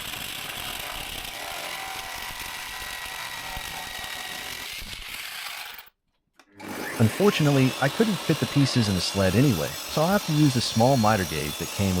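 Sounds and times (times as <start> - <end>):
jigsaw cutting wood: 0.0 - 6.0, 6.6 - 12.0.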